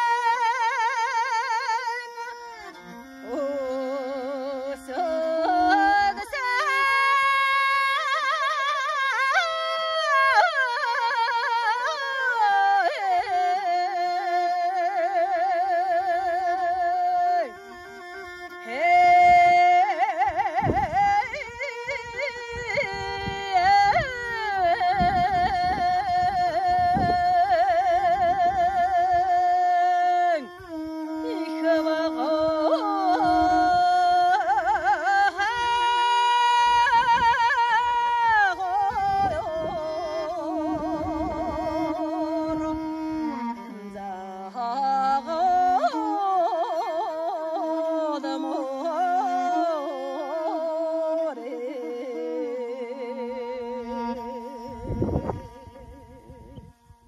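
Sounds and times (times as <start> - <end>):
woman singing with warbling ornaments: 0.0 - 56.8
bowed fiddle: 0.0 - 57.0.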